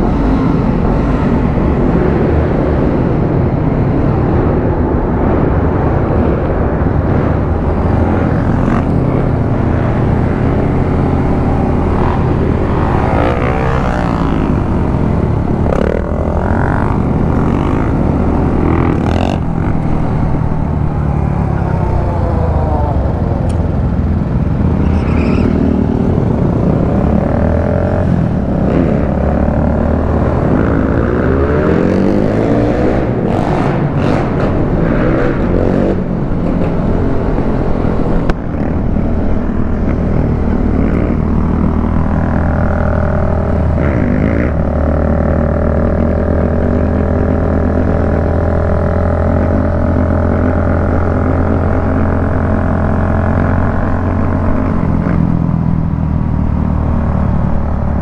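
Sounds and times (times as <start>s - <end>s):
motorcycle engine revving: 5.2s - 58.0s.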